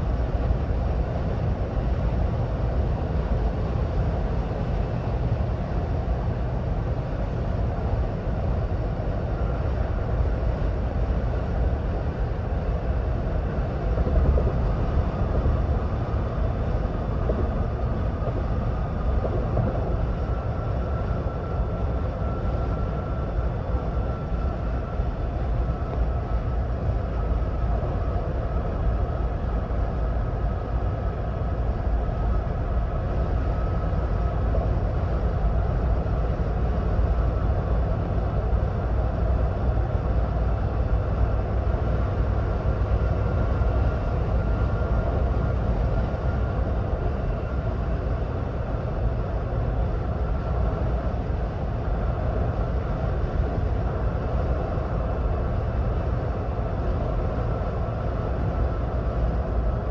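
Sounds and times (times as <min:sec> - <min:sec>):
faint steady whine: 0:00.0 - 0:59.9
road and tyre rumble: 0:00.0 - 0:59.9.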